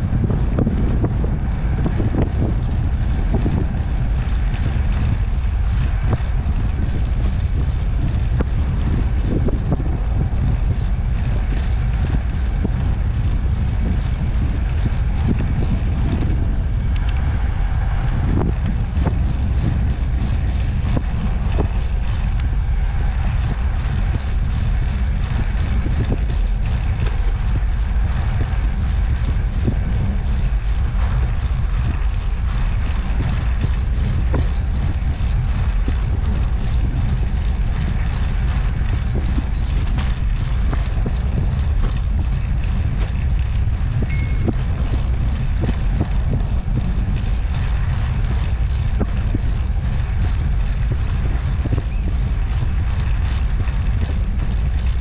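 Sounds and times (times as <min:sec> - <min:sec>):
tyres rolling on asphalt: 0:00.0 - 0:55.0
wind buffeting microphone: 0:00.0 - 0:55.0.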